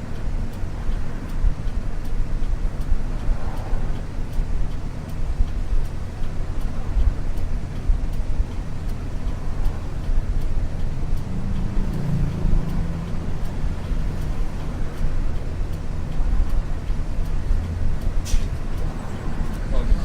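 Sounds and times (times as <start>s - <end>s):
bus diesel engine: 0.0s - 20.0s
road noise: 0.0s - 20.0s.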